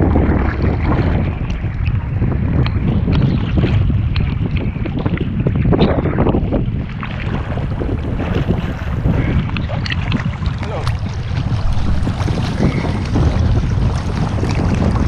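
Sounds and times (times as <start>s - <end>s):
sea water splashing and lapping: 0.0s - 15.0s
wind rumbling on microphone: 0.0s - 15.0s.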